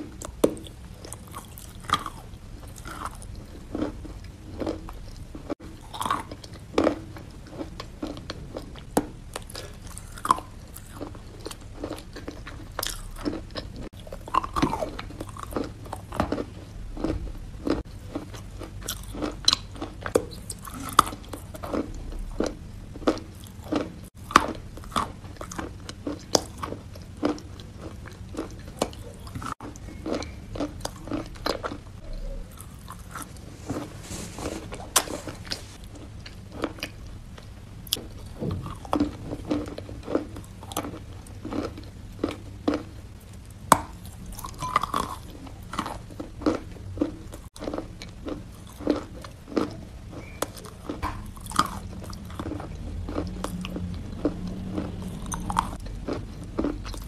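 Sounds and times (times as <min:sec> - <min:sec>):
low steady hum: 0:00.0 - 0:57.0
person chewing chalk crunching: 0:00.0 - 0:57.0.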